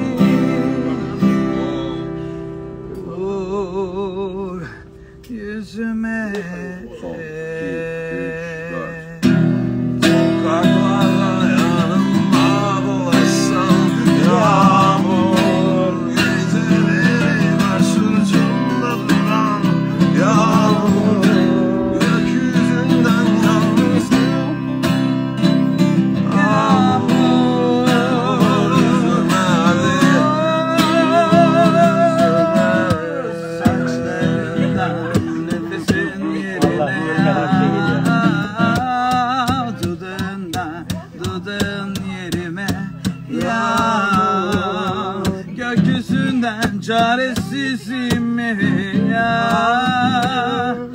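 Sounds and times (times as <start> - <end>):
acoustic guitars strummed: 0.0 - 50.9
man singing: 0.0 - 50.9.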